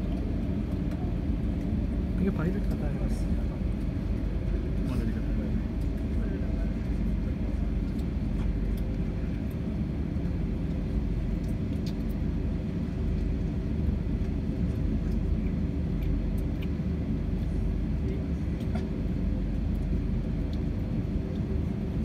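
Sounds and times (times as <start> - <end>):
airliner engines rumbling in cabin: 0.0 - 22.0.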